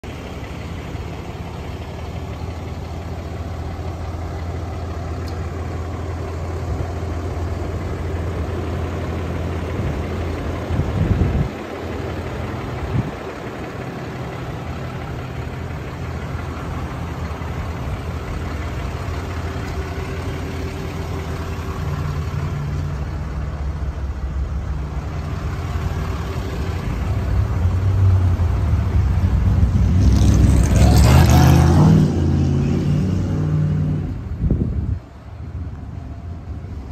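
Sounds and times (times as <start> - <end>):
diesel engine idling: 0.0 - 32.8, 33.9 - 36.9.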